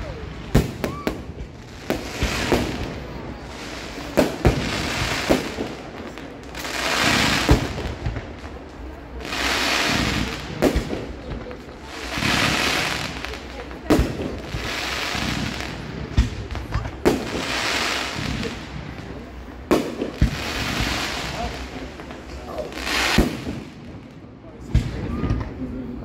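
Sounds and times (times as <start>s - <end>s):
dense firework crackling: 0.0s - 26.0s.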